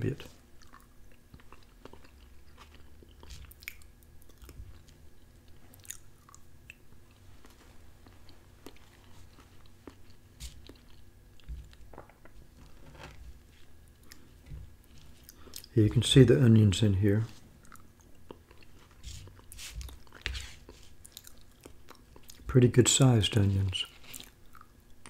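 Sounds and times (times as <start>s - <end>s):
person chewing food: 0.3s - 15.7s, 17.3s - 22.5s, 23.9s - 25.0s.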